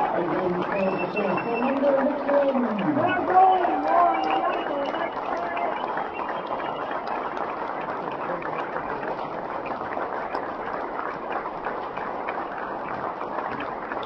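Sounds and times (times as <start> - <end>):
crowd applause: 0.0 - 14.0.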